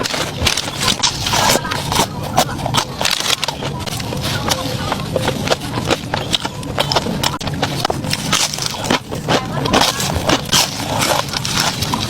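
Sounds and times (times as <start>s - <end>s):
chewing crisp fries: 0.0s - 12.0s.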